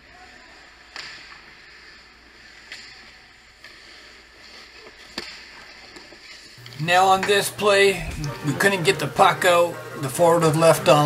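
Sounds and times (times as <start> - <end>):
ice rink hiss: 0.1 - 11.0.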